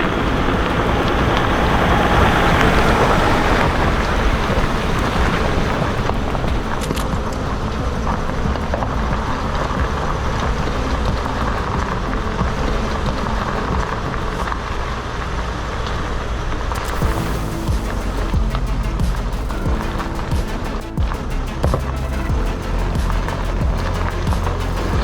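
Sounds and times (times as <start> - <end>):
tyre and road noise: 0.0 - 25.0
van engine running: 0.0 - 25.0.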